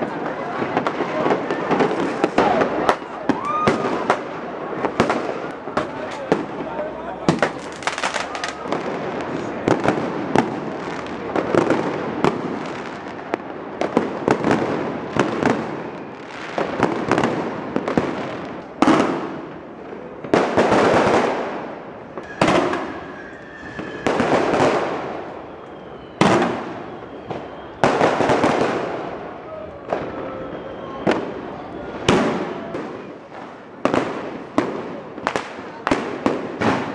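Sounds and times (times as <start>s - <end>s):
firecrackers bangs and crackling: 0.0s - 36.9s
loud echoing firework booms: 0.6s - 19.6s, 20.2s - 25.4s, 26.1s - 36.9s.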